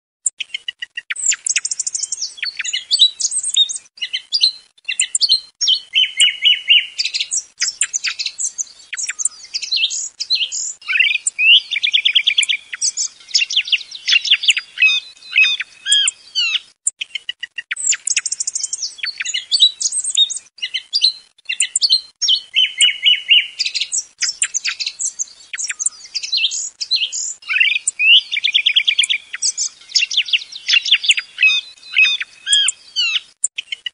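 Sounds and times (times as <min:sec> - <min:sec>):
song thrush singing: 0:00.3 - 0:33.9.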